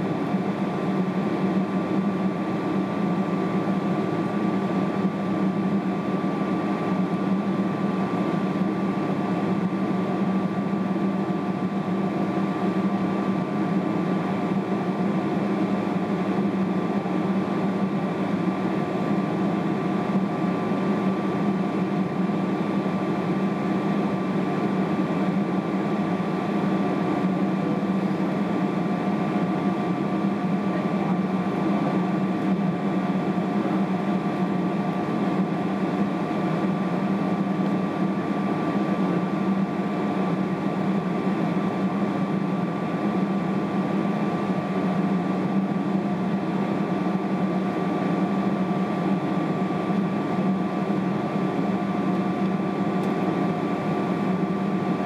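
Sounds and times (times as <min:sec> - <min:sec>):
airplane cabin hum: 0:00.0 - 0:55.0
faint steady whines: 0:00.0 - 0:55.0.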